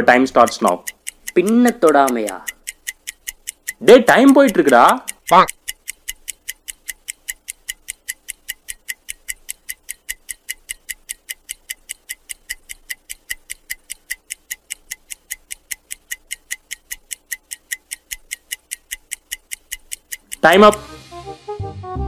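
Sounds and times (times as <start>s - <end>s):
clock ticking: 0.0s - 20.9s.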